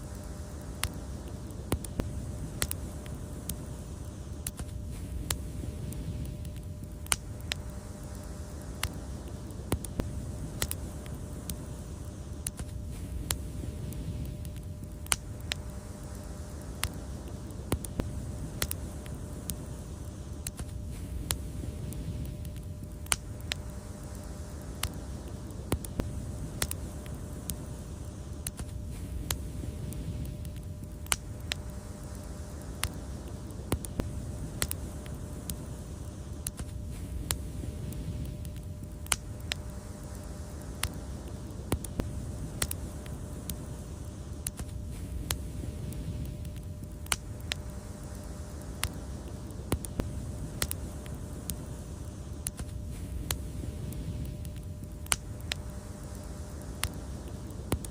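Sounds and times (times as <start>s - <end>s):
fire crackling and popping: 0.0s - 57.9s
low rumble of flames: 0.0s - 57.9s.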